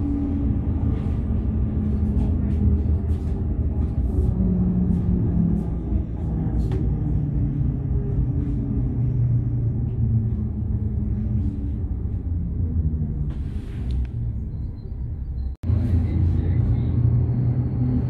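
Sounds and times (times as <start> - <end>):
low hum: 0.0 - 18.0
train wheels rumbling on track: 0.0 - 18.0.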